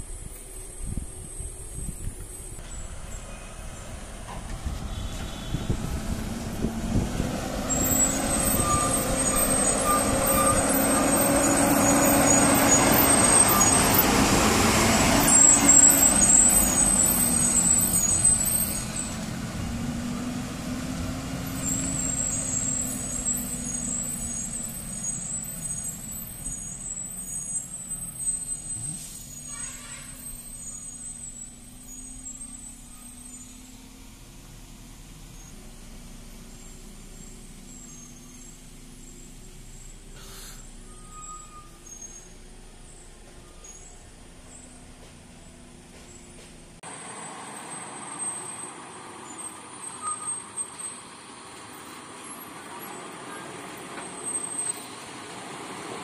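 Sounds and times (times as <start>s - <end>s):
diesel lorry engine: 0.0s - 56.0s.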